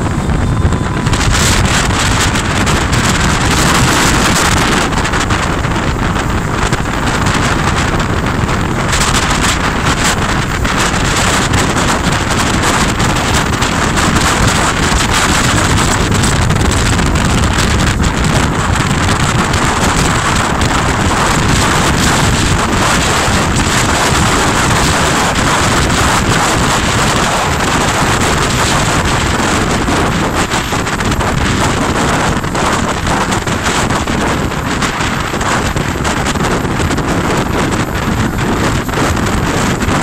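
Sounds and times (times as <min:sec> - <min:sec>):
jet boat engine rush: 0:00.0 - 0:40.0
wind buffeting the microphone: 0:00.0 - 0:40.0.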